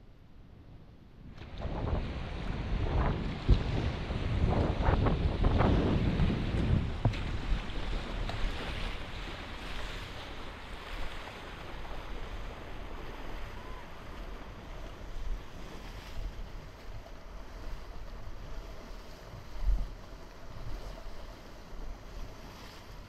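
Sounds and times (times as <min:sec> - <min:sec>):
wind buffeting microphone: 0:01.2 - 0:23.0
whitewater rushing and splashing: 0:01.4 - 0:21.1.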